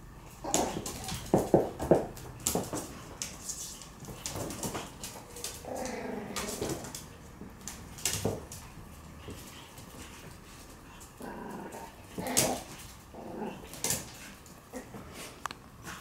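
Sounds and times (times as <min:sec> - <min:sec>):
puppy growling: 0:00.3 - 0:03.2, 0:04.0 - 0:08.4, 0:09.1 - 0:16.0.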